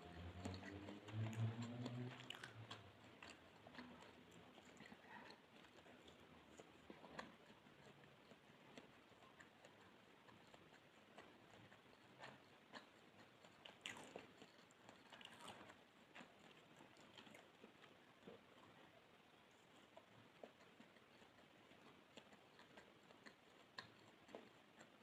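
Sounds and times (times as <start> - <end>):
chewing with wet mouth clicks: 0.0 - 25.0.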